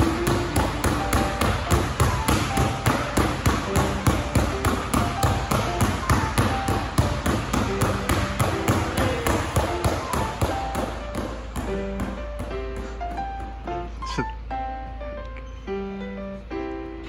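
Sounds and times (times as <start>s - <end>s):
basketballs bouncing on court floor: 0.0s - 13.8s.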